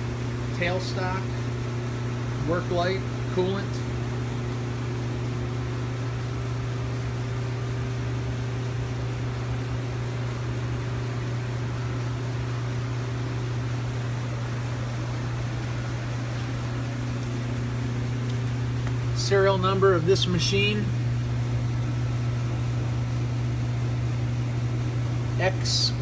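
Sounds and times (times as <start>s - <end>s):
machinery humming with hiss: 0.0s - 26.0s.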